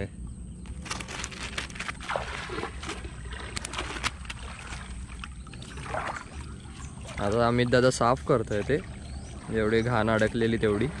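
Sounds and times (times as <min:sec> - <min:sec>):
small splashes and clicks: 0:00.6 - 0:11.0
creek water splashing around net: 0:00.7 - 0:11.0.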